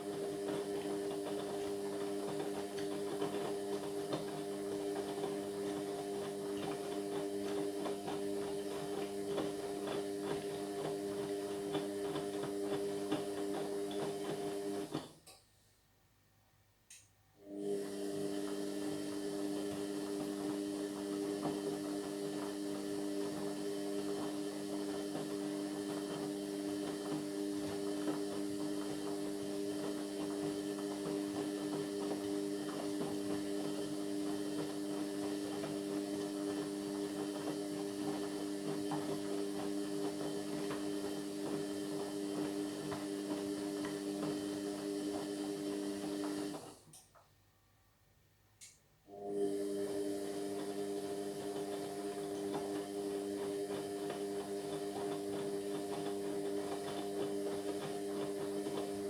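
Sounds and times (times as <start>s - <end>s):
washing machine humming: 0.0s - 15.2s, 17.4s - 47.0s, 49.1s - 59.0s.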